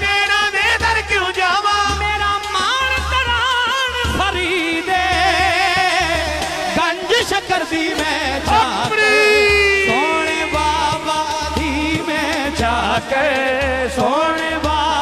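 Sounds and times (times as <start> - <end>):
low drum beat: 0.0 - 15.0
man singing with vibrato: 0.0 - 15.0.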